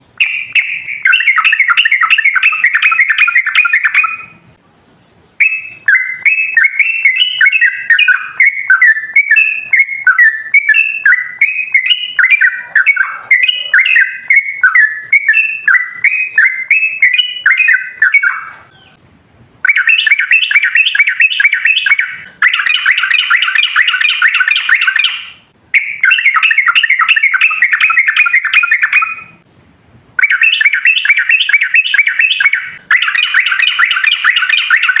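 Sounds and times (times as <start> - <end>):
bird chattering song: 0.0 - 19.0, 19.6 - 29.4, 30.2 - 35.0.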